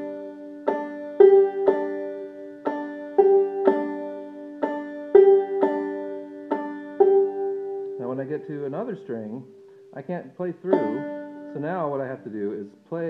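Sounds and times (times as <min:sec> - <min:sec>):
banjo playing: 0:00.0 - 0:13.0.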